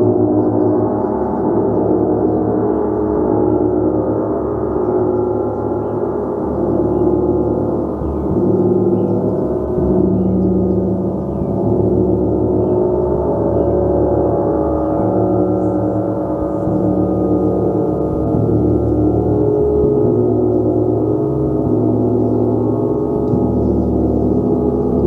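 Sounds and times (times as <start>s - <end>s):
gong ringing: 0.0s - 25.0s.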